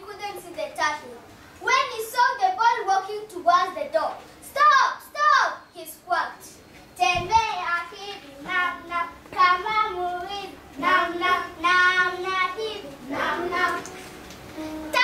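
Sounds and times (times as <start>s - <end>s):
child singing unaccompanied: 0.0s - 15.0s.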